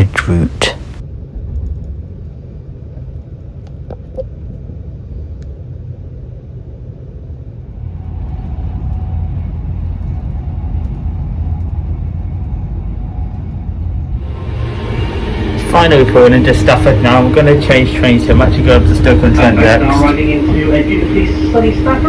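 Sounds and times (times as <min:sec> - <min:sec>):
train rumble inside carriage: 0:00.0 - 0:22.0.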